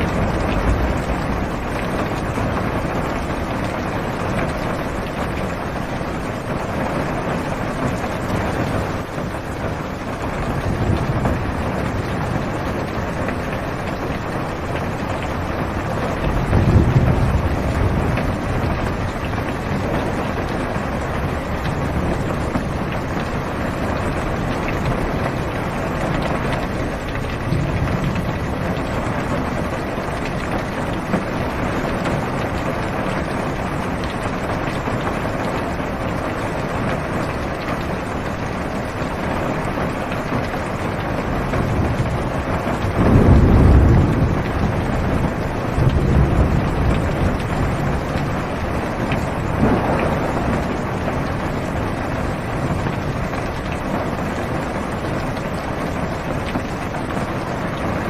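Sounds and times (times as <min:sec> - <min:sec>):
low thunder rumble: 0:00.0 - 0:58.0
rain on a car roof: 0:00.0 - 0:58.0.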